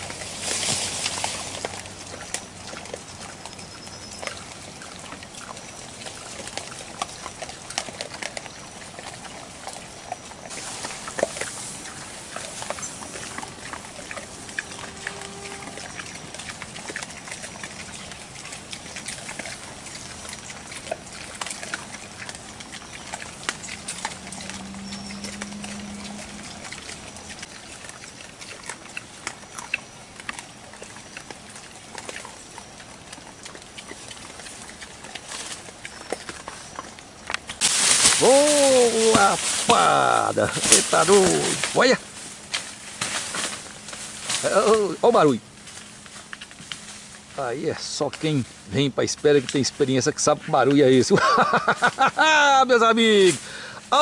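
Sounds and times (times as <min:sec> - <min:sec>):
rustling in leaf litter: 0:00.0 - 0:07.7, 0:09.9 - 0:29.3, 0:31.4 - 0:54.0
peccaries clacking teeth: 0:00.0 - 0:48.4.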